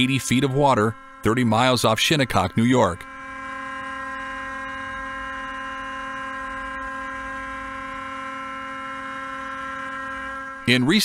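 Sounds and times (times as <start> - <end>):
synth drone: 0.0 - 11.0.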